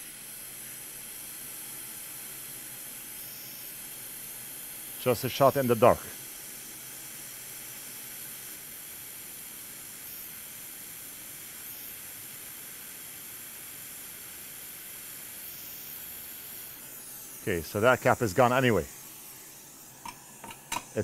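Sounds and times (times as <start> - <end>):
hot air station airflow hiss: 0.0 - 21.0.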